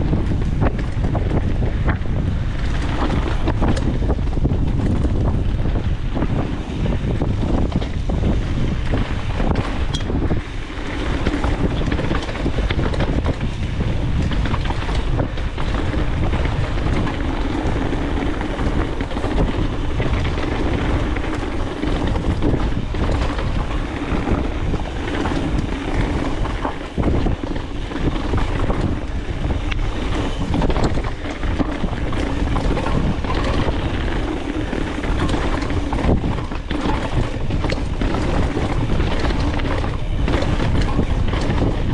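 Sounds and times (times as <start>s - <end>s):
bike rattles and knocks: 0.0s - 41.9s
tyres rumbling on dirt: 0.0s - 41.9s
wind buffeting microphone: 0.0s - 41.9s.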